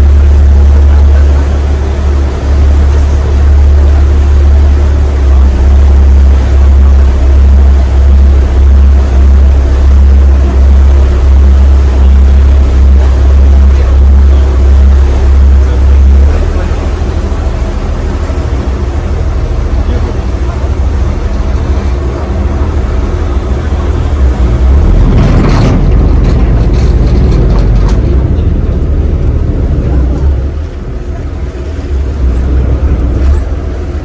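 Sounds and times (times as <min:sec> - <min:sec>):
ferry engine drone: 0:00.0 - 0:34.0.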